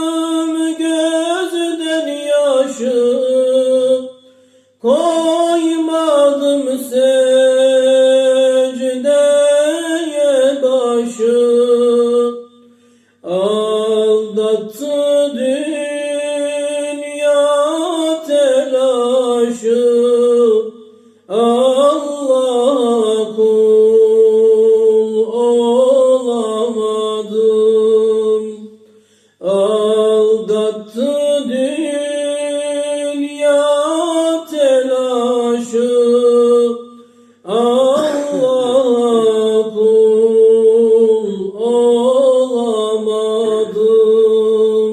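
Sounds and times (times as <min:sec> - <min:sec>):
person singing unaccompanied: 0:00.0 - 0:04.2, 0:04.8 - 0:12.6, 0:13.2 - 0:28.8, 0:29.4 - 0:44.9.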